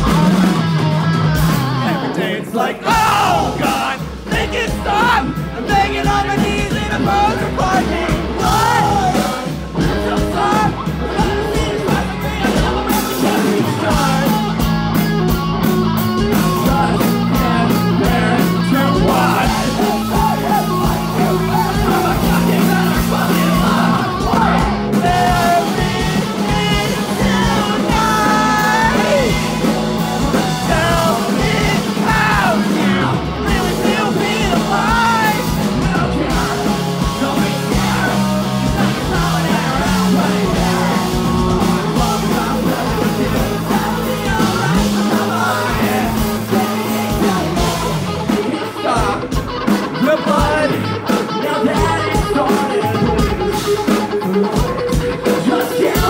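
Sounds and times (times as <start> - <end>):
person singing and shouting: 0.0 - 15.2, 16.0 - 56.0
punk rock band playing live: 0.0 - 56.0.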